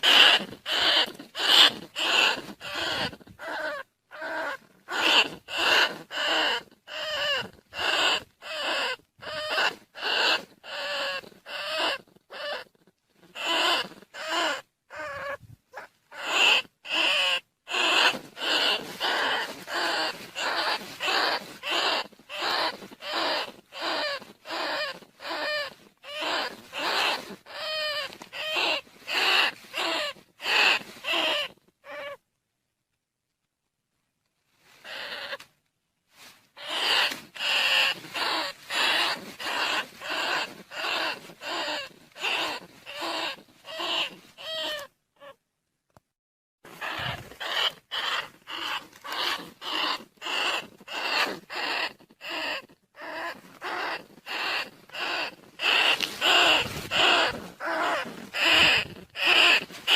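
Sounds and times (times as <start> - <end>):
rat squeaking calls: 0.0 - 32.2, 34.8 - 35.4, 36.6 - 45.4, 46.7 - 59.9.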